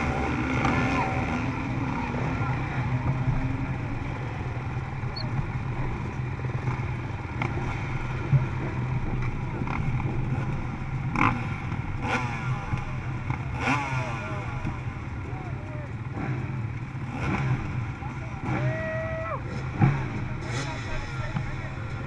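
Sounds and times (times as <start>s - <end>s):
dirt bike engines running: 0.0s - 22.0s.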